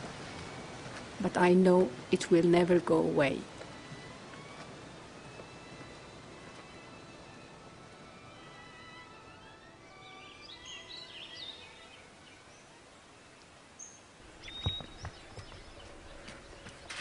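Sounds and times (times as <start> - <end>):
birds chirping: 0.0 - 17.0
faint steady hiss: 0.0 - 17.0.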